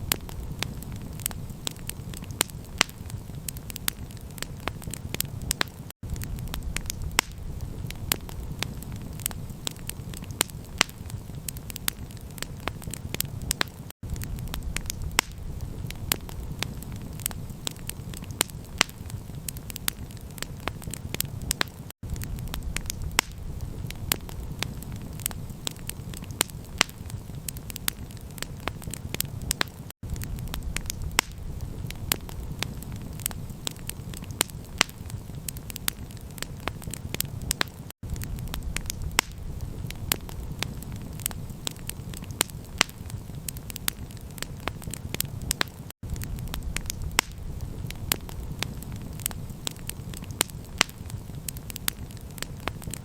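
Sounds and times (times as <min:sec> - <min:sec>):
campfire pops and snaps: 0:00.0 - 0:53.0
low fire rumble: 0:00.0 - 0:53.0.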